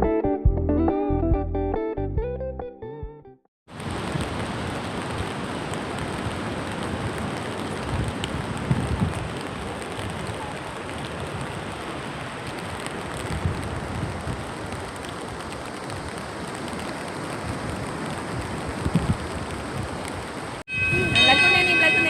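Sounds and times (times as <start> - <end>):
steady rain falling: 3.7 - 22.0.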